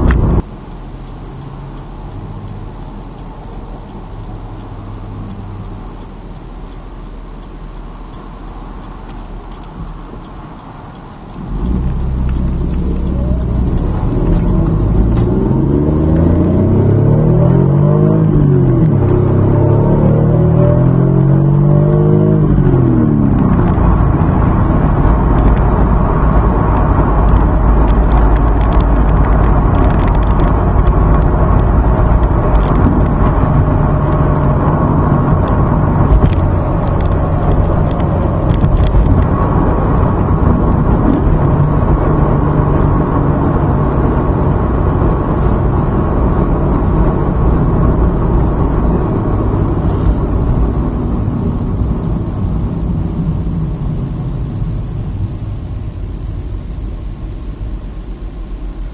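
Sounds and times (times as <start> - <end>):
car engine droning: 0.0 - 58.9.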